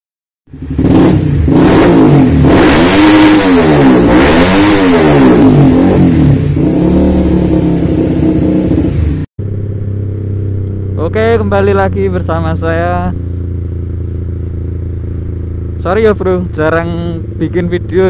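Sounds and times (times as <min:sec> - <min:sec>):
motorcycle engine revving: 0:00.5 - 0:18.0.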